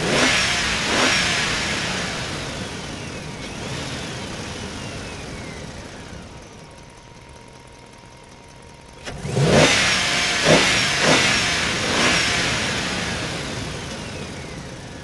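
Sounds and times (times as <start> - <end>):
engine revving: 0.0 - 6.5, 9.0 - 15.0.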